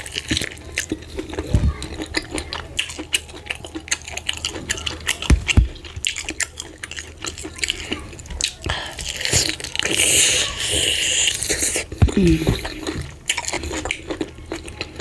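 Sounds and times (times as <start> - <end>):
sticky chewing clicks and smacks: 0.0 - 10.6, 11.2 - 15.0.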